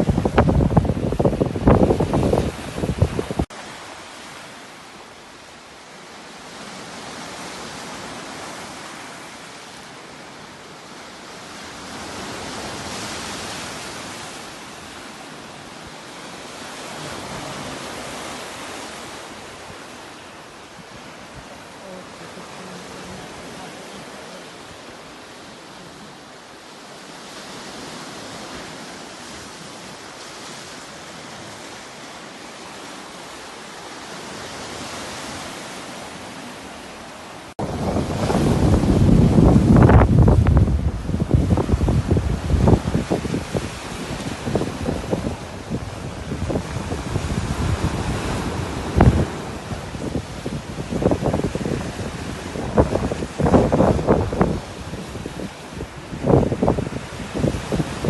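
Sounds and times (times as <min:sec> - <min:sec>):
waves washing up on beach: 0:00.0 - 0:58.0.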